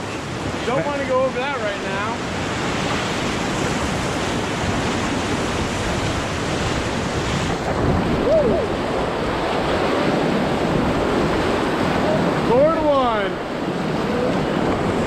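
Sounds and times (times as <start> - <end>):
whitewater rushing: 0.0 - 15.0
wind buffeting microphone: 0.0 - 15.0.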